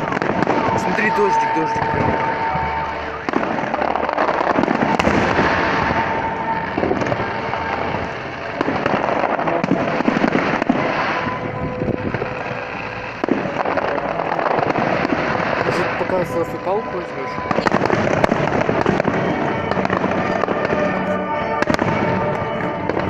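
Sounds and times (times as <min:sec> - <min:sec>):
fireworks bangs: 0:00.0 - 0:23.0
fireworks crackling: 0:00.0 - 0:23.0.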